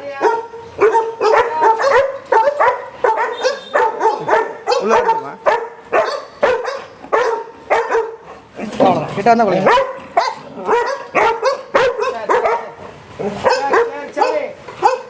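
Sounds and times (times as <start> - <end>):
dogs barking rapidly: 0.0 - 15.0.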